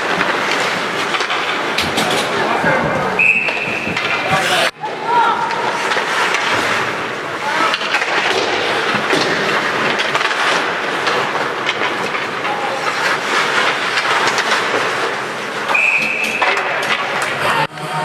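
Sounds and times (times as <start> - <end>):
hockey sticks and puck clacking: 0.0 - 18.0
skates scraping ice: 0.0 - 18.0.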